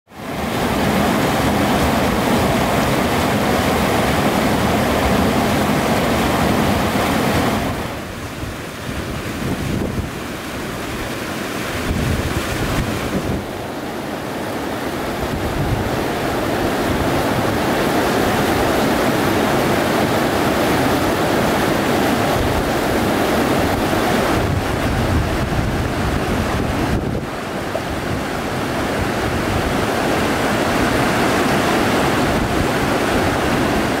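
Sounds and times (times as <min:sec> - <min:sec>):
river rapids rushing over rocks: 0:00.1 - 0:34.0
wind gusting on microphone: 0:00.2 - 0:34.0.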